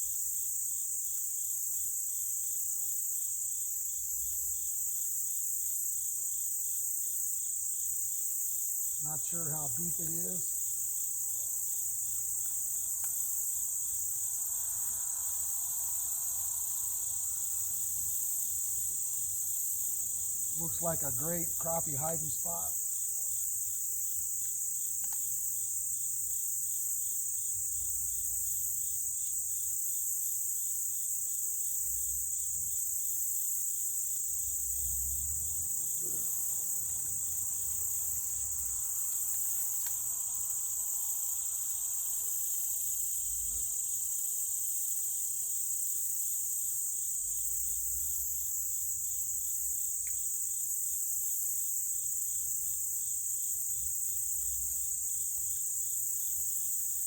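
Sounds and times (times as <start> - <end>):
insects buzzing: 0.0 - 57.0
pulsing insect chirp: 0.0 - 57.0.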